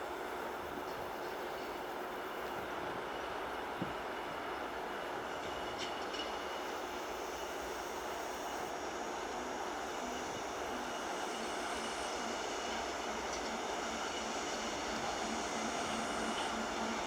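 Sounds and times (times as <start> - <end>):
freight train rolling on track: 0.0 - 17.0.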